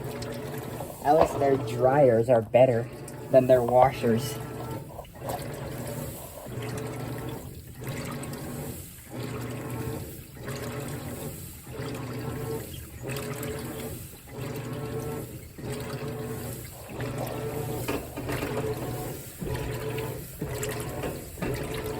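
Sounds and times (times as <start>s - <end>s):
washing machine motor humming: 0.0s - 21.9s
water sloshing: 0.0s - 21.9s.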